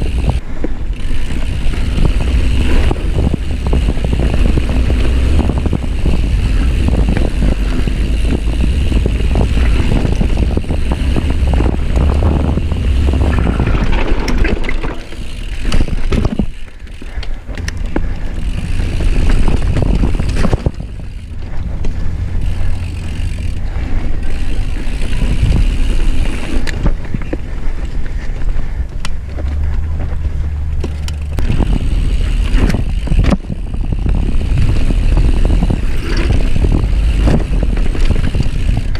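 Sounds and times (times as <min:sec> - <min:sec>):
bike rattling and clattering: 0:00.0 - 0:38.9
bike tyre noise on dirt: 0:00.0 - 0:38.9
wind rumble on microphone: 0:00.0 - 0:38.9.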